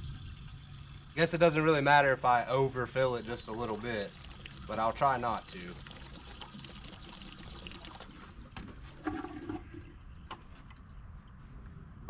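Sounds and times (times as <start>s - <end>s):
water pouring from plastic jug: 0.0s - 11.2s.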